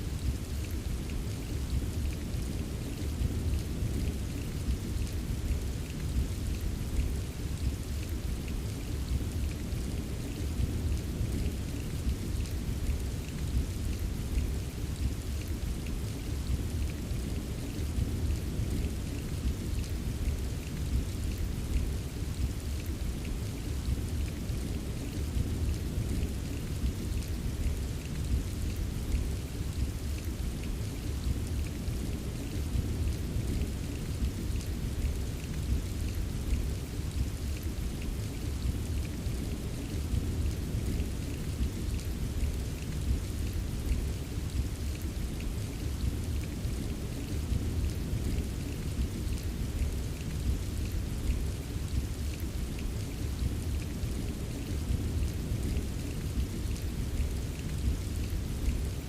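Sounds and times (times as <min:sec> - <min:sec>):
pattering raindrops: 0:00.0 - 0:59.0
steady rain: 0:00.0 - 0:59.0.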